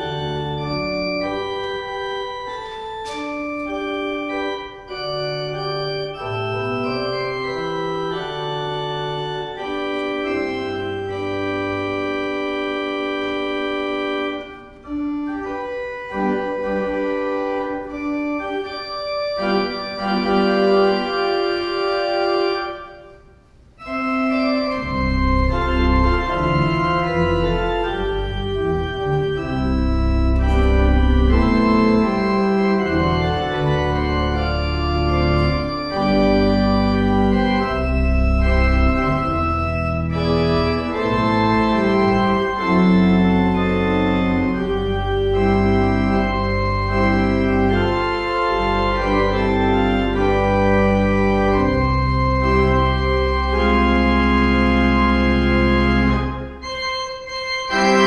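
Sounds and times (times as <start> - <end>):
deep organ pedal notes: 0.0 - 58.0
pipe organ chords: 0.0 - 58.0.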